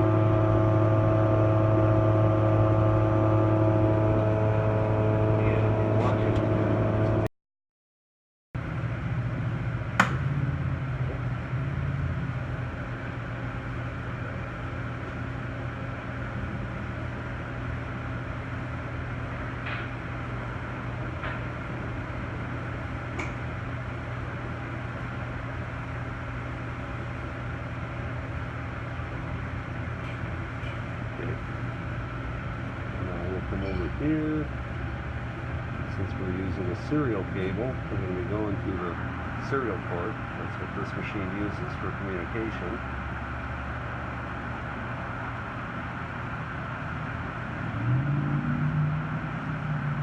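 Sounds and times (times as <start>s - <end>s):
electrical hum and cooling fan: 0.0s - 7.3s, 8.6s - 50.0s.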